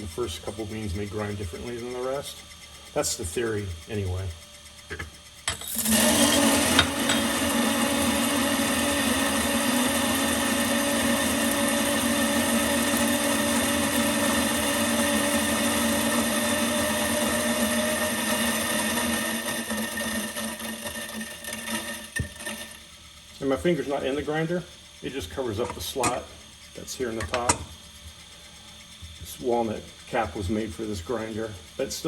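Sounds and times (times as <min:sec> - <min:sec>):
coffee grinder running: 0:00.0 - 0:32.0.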